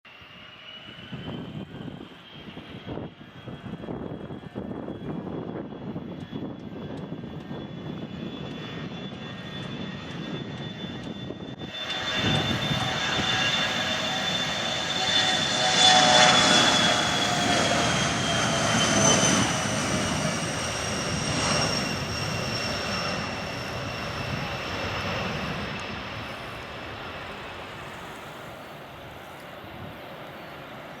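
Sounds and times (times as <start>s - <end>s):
airplane taking off: 0.1s - 31.0s.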